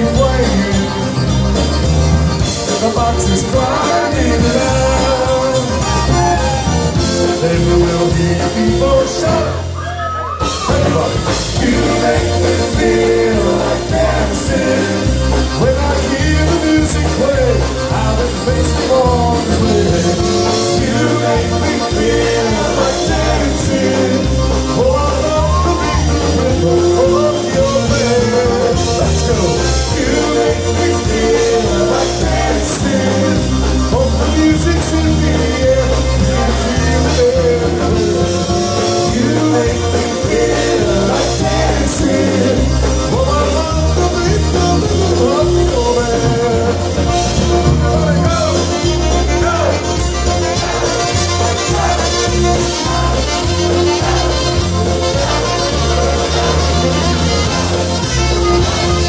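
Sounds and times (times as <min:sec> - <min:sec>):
man singing into microphone: 0:00.0 - 0:01.4, 0:02.6 - 0:49.9
polka band playing: 0:00.0 - 0:59.0.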